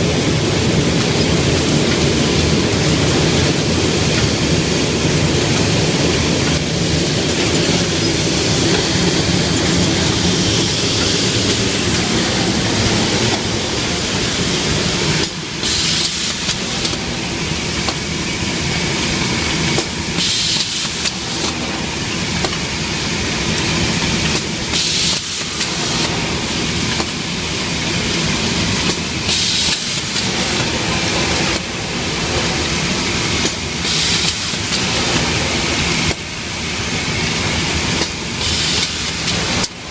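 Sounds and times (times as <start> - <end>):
machinery clatter and rumble: 0.0 - 39.9.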